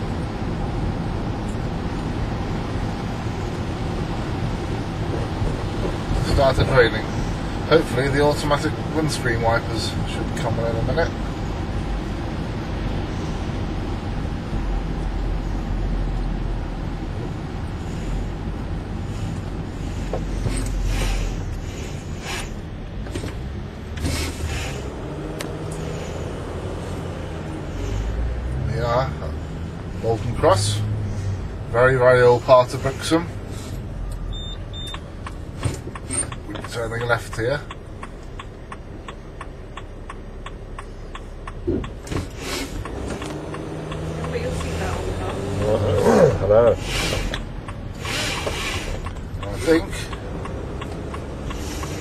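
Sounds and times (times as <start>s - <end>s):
turn signal ticking: 0.0s - 52.0s
tyres swishing on wet road: 0.0s - 52.0s
van engine low rumble: 0.0s - 52.0s.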